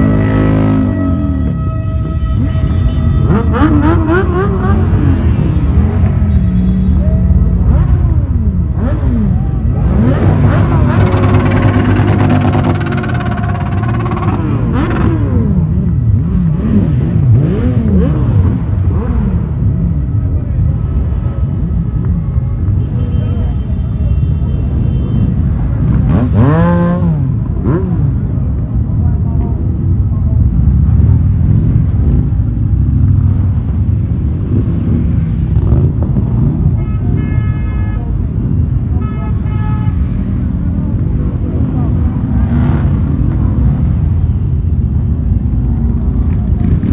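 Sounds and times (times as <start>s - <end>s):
motorcycle engines running: 0.0s - 23.5s, 24.4s - 37.3s, 40.0s - 46.9s.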